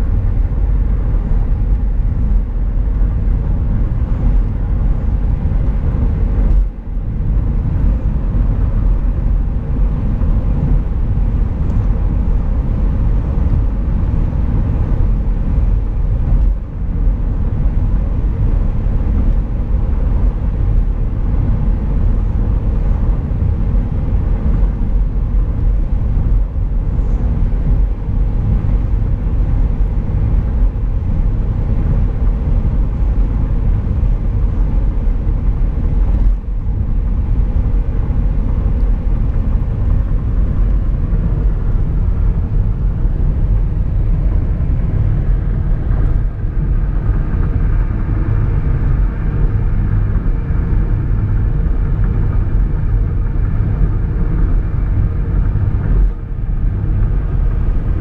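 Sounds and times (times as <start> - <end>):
car driving on concrete road: 0.0 - 58.0.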